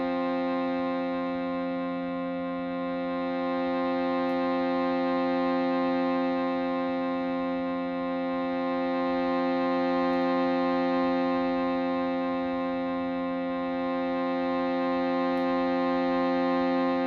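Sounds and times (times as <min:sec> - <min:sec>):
shruti box drone: 0:00.0 - 0:17.0.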